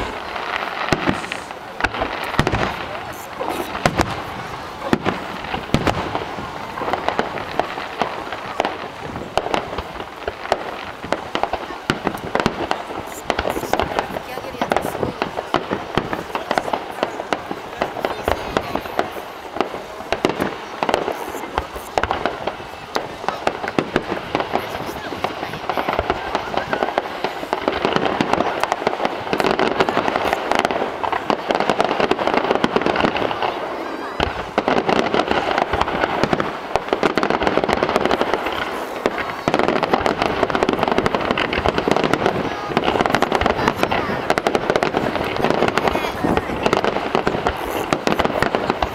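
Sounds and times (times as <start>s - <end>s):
fireworks cracks and bangs: 0.0s - 48.9s.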